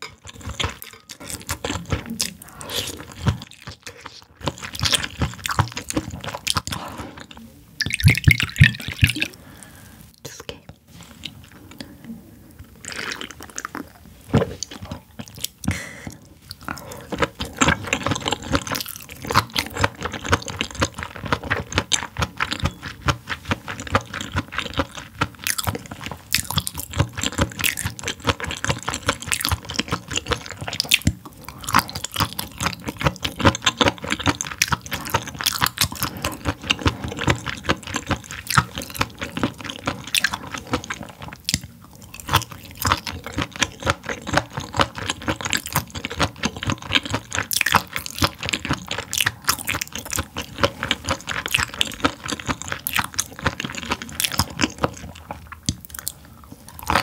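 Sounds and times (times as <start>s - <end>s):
close chewing with mouth clicks: 0.0s - 9.4s, 10.2s - 57.0s.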